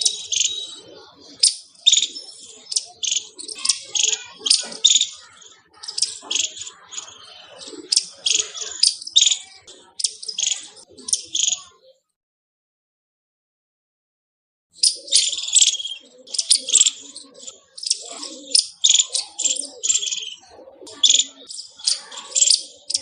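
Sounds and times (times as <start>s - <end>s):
squirrel chirping: 0.0s - 11.8s, 14.8s - 23.0s.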